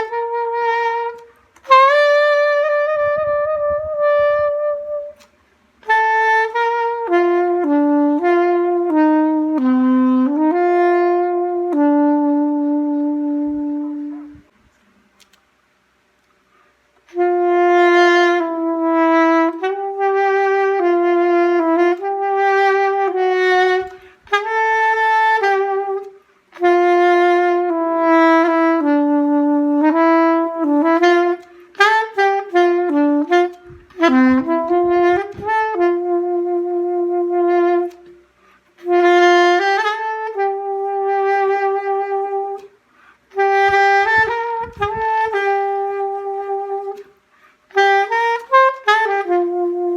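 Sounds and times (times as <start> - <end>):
solo saxophone melody: 0.0 - 14.6, 16.5 - 49.9.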